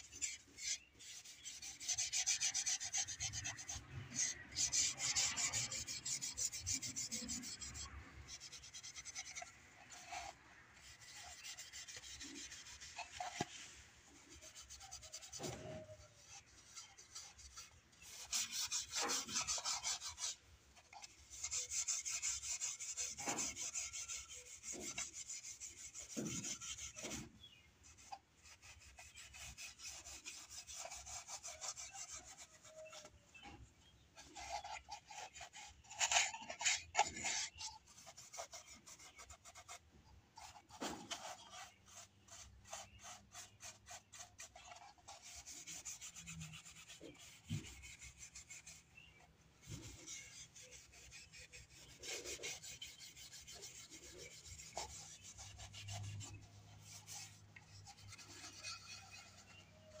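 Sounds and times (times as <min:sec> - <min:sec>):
steel wool scratching paint: 0:00.0 - 1:00.0.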